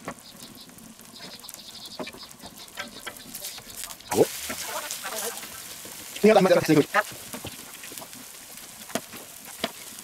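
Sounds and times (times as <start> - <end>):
pancake sizzling and crackling: 0.0 - 10.0.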